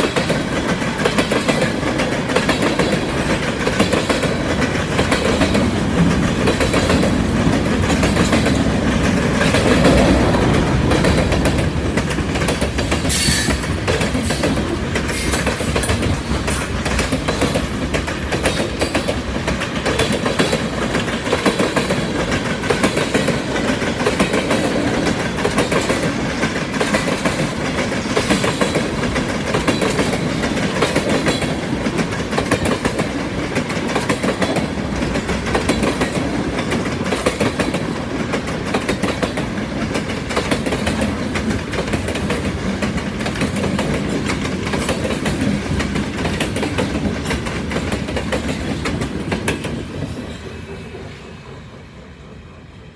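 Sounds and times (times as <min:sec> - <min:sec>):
train wheels clattering over rails: 0:00.0 - 0:51.3
train rumble: 0:00.0 - 0:52.9.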